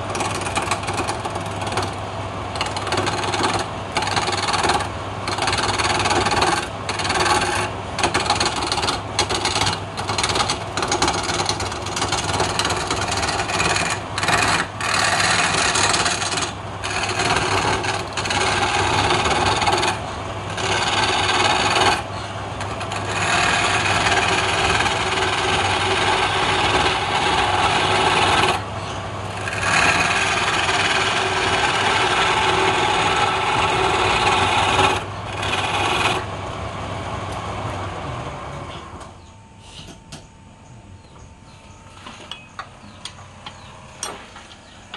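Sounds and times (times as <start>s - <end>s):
chisel scraping on lathe wood: 0.0s - 36.3s
lathe motor hum: 0.0s - 39.2s.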